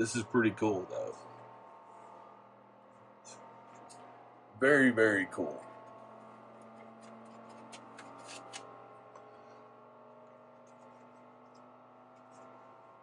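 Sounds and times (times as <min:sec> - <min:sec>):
three d printer humming: 0:00.0 - 0:13.0.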